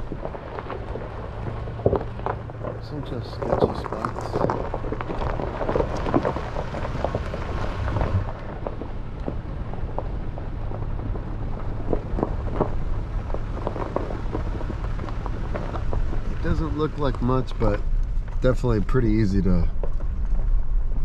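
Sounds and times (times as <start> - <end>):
tyres crunching over gravel: 0.0 - 21.0
vehicle low rumble: 0.0 - 21.0.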